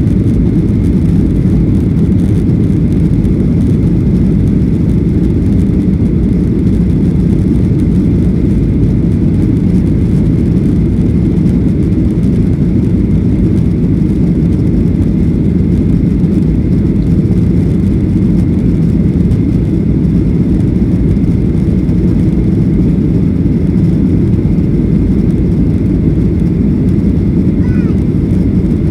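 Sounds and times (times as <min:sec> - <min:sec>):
jet engines roaring in cabin: 0:00.0 - 0:28.9.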